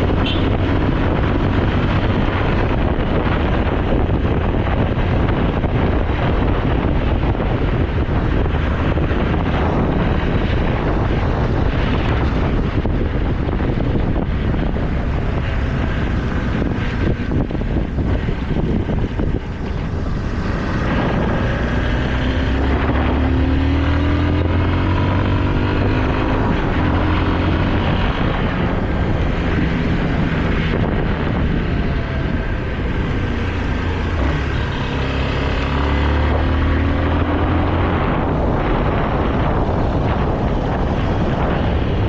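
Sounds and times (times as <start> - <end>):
motorcycle engine accelerating: 0.0 - 42.0
wind noise on microphone: 0.0 - 42.0.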